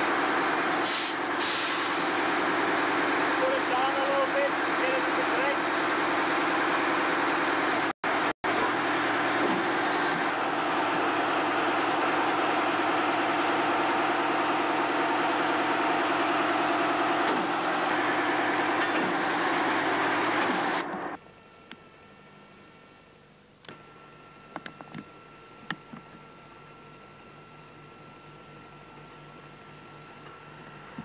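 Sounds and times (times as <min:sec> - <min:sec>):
heavy engine running: 0:00.0 - 0:21.2, 0:24.8 - 0:31.0.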